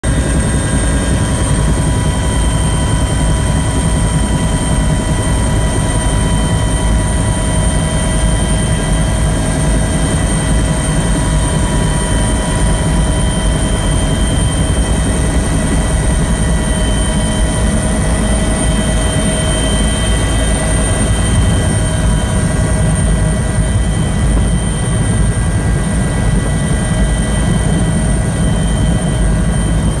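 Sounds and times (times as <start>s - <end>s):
helicopter rotor rumble: 0.0s - 30.0s
turbine whine: 0.0s - 30.0s.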